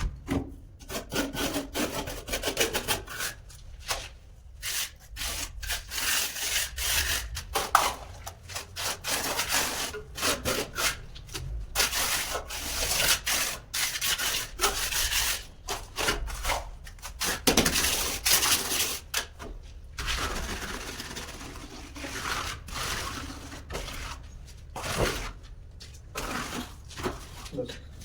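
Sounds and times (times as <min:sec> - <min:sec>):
hand tool scraping rough surface: 0:00.9 - 0:25.5, 0:26.1 - 0:28.0.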